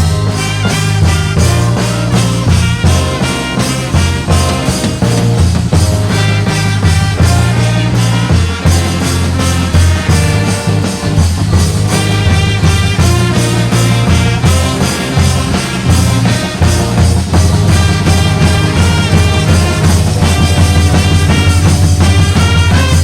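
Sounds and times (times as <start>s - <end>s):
brass horns: 0.0s - 23.0s
drums keeping beat: 0.0s - 23.0s
low bass line: 0.0s - 23.0s.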